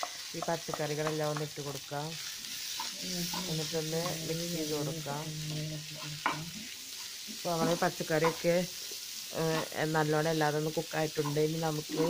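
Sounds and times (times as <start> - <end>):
spatula stirring in a pan: 0.0 - 12.0
vegetables sizzling in a frying pan: 0.0 - 12.0.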